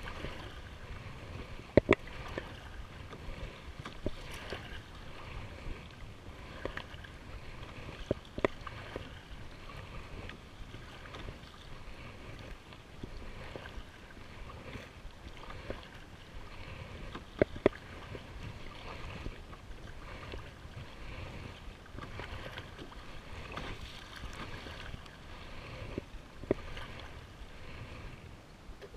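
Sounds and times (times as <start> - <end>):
water lapping against kayak hull: 0.0 - 28.9
wind rumble on microphone: 0.0 - 28.9.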